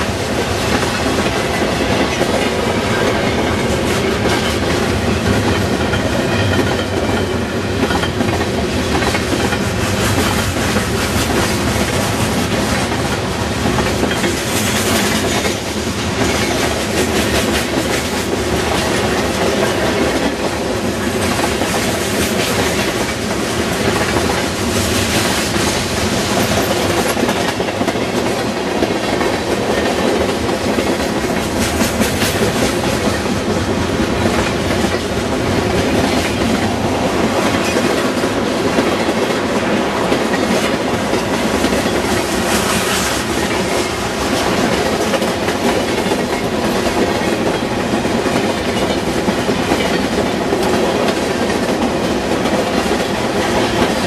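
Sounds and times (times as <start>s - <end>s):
clickety-clack over rail joints: 0.0s - 54.0s.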